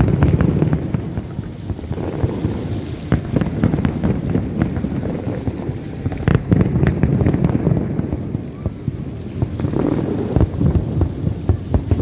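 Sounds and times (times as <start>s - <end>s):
fireworks booming: 0.0s - 12.0s
fireworks crackling pops: 0.0s - 12.0s.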